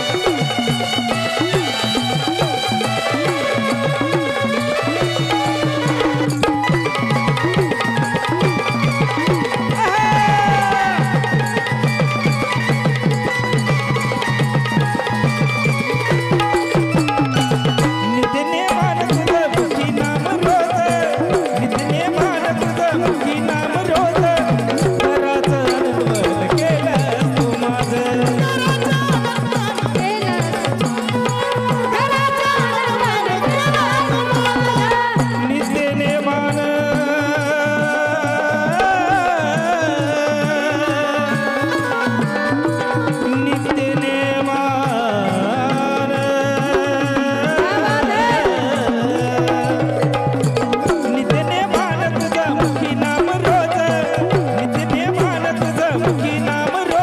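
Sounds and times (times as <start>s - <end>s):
hand drum rhythm: 0.0s - 57.0s.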